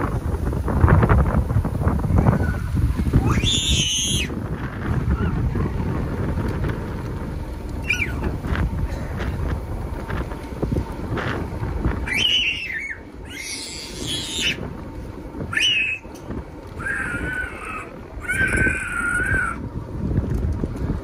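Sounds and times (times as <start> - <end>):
wind buffeting microphone: 0.0 - 21.0
gulls crying: 1.1 - 20.0.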